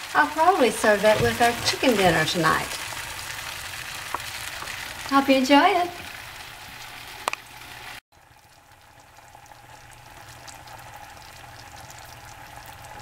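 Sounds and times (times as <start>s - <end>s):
gravy simmering and sizzling: 0.0s - 13.0s.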